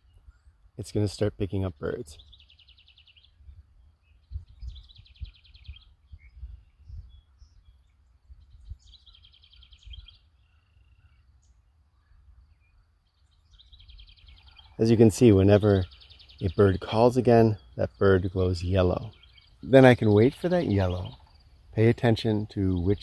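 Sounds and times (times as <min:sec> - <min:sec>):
bird chirps: 0:00.0 - 0:23.0
wren trilled song: 0:00.0 - 0:23.0.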